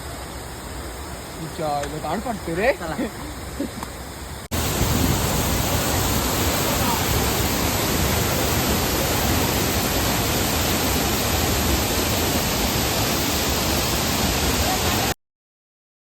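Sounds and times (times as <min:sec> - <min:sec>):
waterfall rushing: 0:00.0 - 0:15.2.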